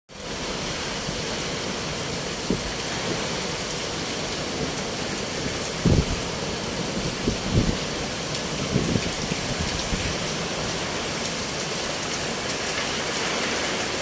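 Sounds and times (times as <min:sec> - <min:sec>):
heavy rain falling: 0:00.1 - 0:14.0.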